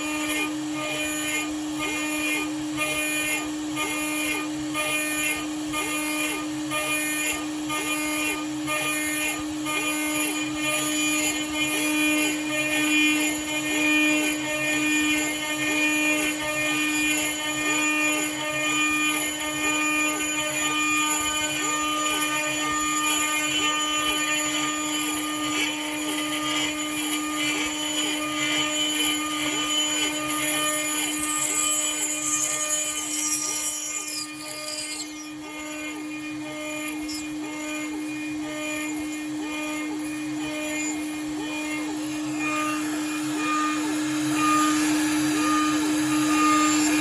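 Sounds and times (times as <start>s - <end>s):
milling machine cutting metal: 0.0s - 47.0s.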